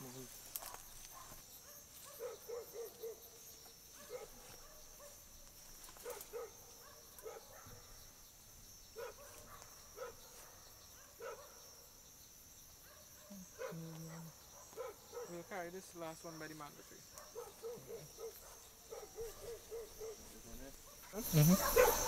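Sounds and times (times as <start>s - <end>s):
night insects droning: 0.0s - 22.0s
faint dog barking: 0.5s - 5.3s, 6.0s - 8.1s, 8.9s - 11.8s, 12.8s - 15.5s, 16.8s - 22.0s.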